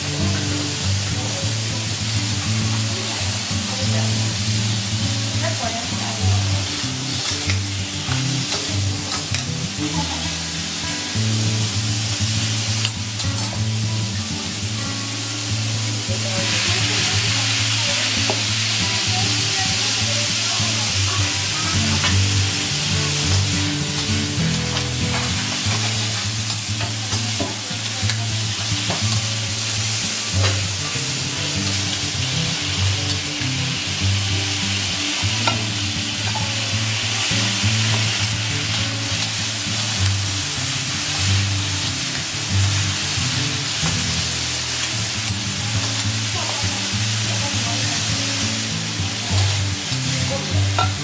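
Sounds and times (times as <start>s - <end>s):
background music with bass: 0.0s - 51.0s
meat sizzling on a griddle: 0.0s - 51.0s.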